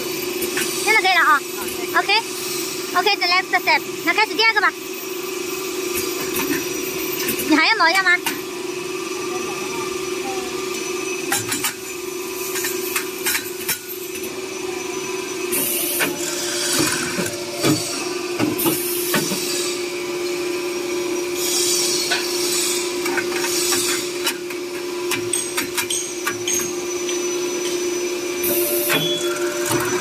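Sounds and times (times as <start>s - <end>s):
machine motor hum: 4.7s - 30.0s.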